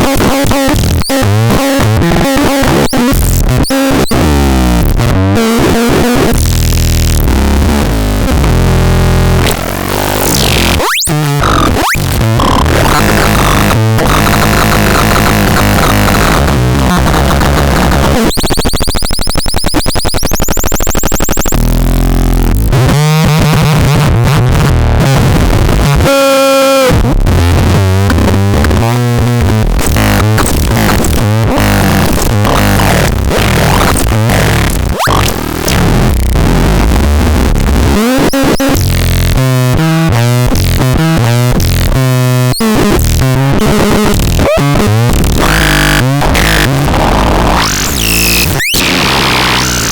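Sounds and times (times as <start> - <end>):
harsh electronic buzzing tones: 0.0 - 24.0, 26.0 - 49.9.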